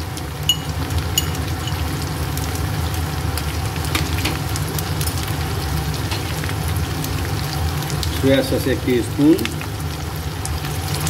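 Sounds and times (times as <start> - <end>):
food sizzling in oil: 0.0 - 11.0
oil popping and crackling: 0.0 - 11.0.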